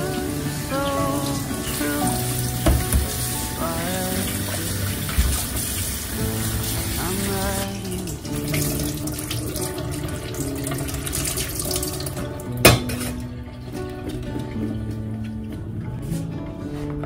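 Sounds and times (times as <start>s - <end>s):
water splashing into metal sink: 0.0s - 15.4s
soft background music: 0.0s - 17.0s.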